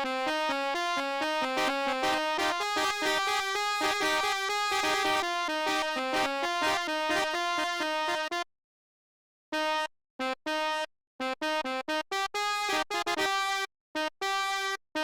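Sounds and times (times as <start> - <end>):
bus horn melody: 0.0 - 8.4, 9.5 - 15.0.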